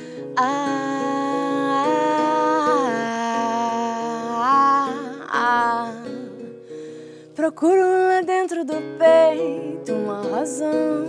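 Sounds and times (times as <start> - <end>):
classical guitar fingerpicked: 0.0 - 11.0.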